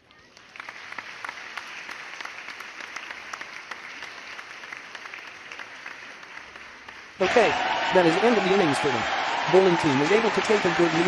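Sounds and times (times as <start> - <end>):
applause: 0.0 - 11.0.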